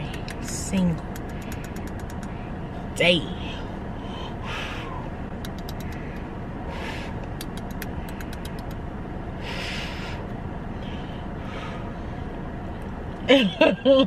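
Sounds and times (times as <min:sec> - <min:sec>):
low hum inside car cabin: 0:00.0 - 0:14.0.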